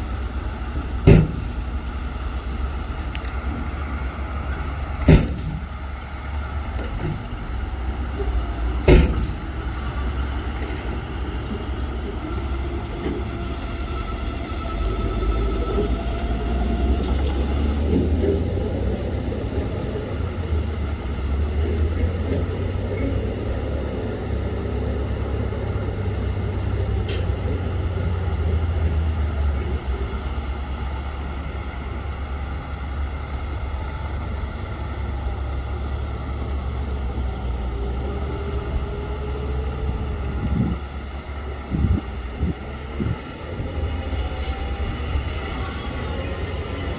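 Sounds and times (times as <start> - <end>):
heavy diesel machinery rumbling: 0.0 - 46.9.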